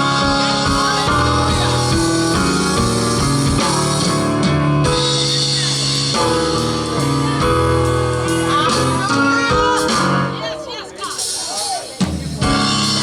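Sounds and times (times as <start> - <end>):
gospel band instrumental: 0.0 - 13.0.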